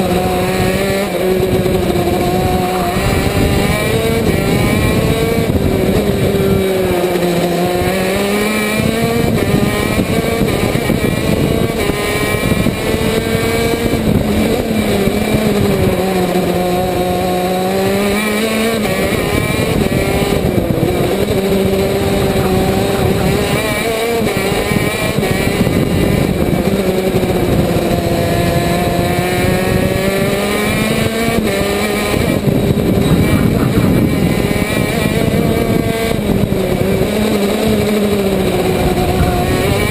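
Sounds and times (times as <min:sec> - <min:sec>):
two-stroke kart engine revving: 0:00.0 - 0:39.9.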